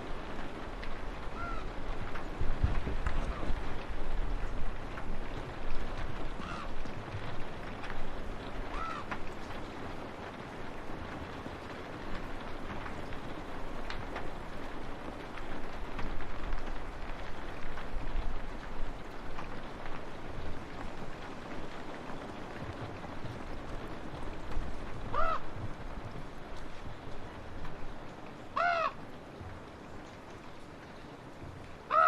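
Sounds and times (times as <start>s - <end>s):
rain on a window: 0.0s - 32.0s.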